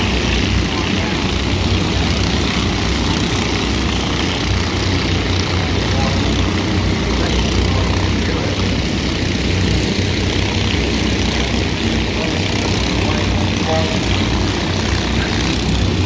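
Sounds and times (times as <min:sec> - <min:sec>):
kart engines droning: 0:00.0 - 0:16.0.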